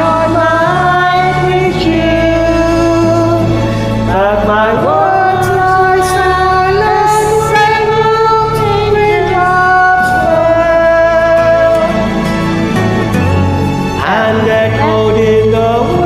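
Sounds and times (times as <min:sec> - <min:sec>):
karaoke backing track: 0:00.0 - 0:16.0.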